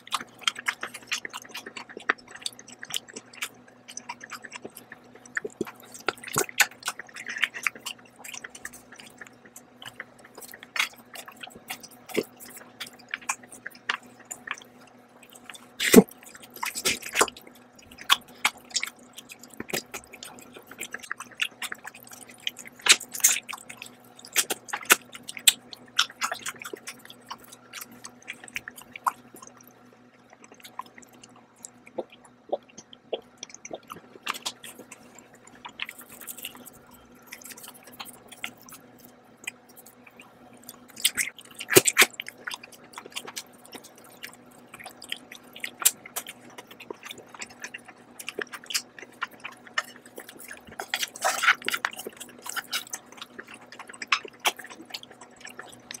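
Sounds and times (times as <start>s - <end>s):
wet chewing and smacking: 0.0s - 56.0s.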